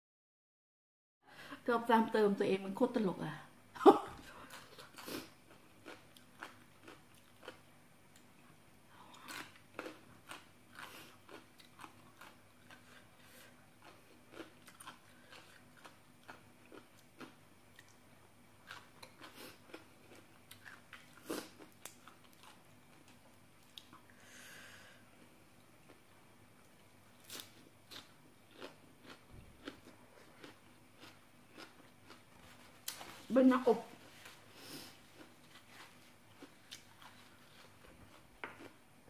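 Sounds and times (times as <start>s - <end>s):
person chewing crunchy food: 4.3s - 33.2s, 34.0s - 39.0s.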